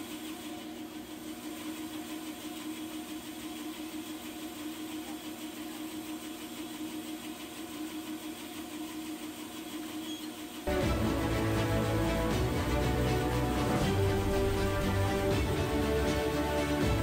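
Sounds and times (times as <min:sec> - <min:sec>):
band saw motor and blade hum: 0:00.0 - 0:17.0.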